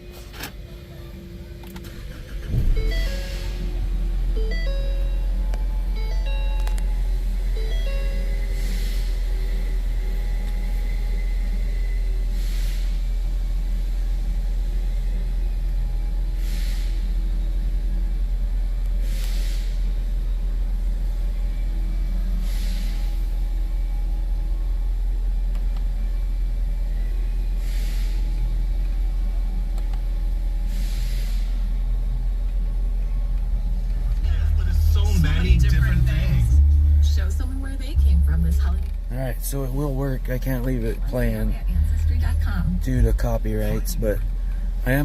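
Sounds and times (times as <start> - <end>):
steady low rumble: 0.0 - 27.6, 28.2 - 45.0.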